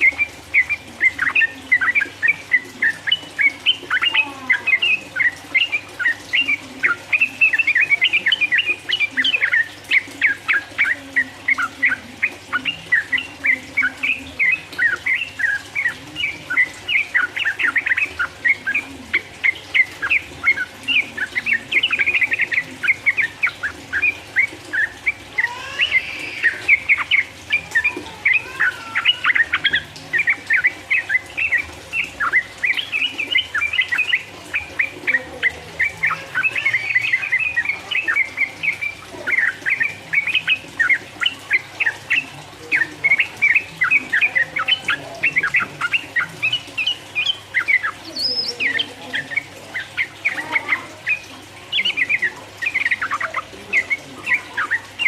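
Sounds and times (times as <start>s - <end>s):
bird singing bubbling notes: 0.0s - 55.0s.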